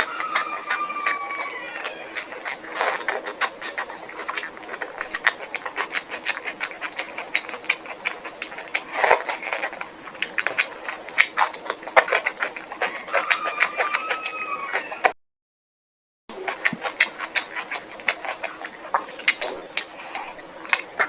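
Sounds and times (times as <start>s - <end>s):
chewing crunchy food: 0.0s - 15.2s, 16.3s - 21.0s.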